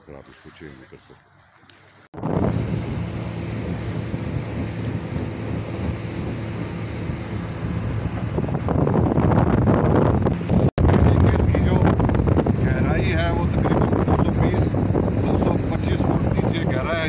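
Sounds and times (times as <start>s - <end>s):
water rushing along hull: 0.0s - 17.0s
motorboat motor running: 1.0s - 17.0s
wind buffeting microphone: 2.1s - 17.0s.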